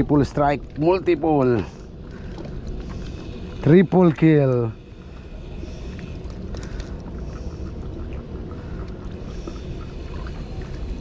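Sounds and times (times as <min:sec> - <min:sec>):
sea water against rocks: 0:00.0 - 0:11.0
wind: 0:00.0 - 0:11.0.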